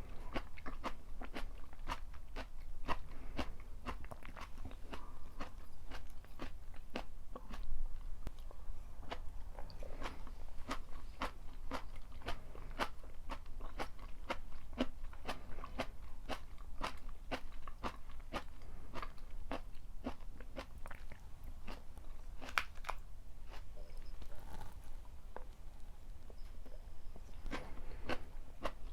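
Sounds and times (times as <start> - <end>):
chewing crisp food: 0.0 - 25.6, 26.2 - 28.9.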